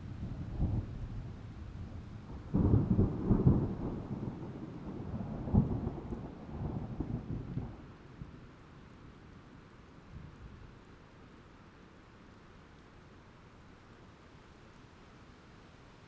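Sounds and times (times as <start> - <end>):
rain: 0.0 - 16.0.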